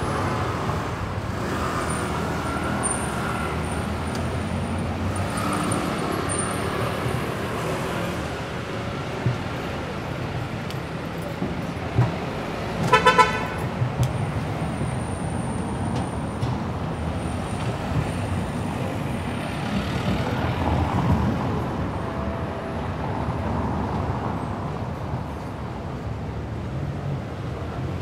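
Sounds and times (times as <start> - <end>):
road noise: 0.0 - 28.0
vehicle engines passing: 0.0 - 28.0.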